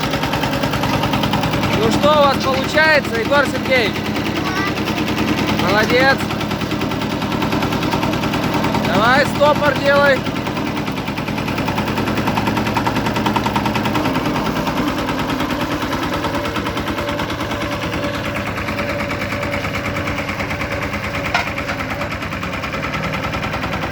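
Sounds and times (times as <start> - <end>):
road roller engine chugging: 0.0 - 23.9.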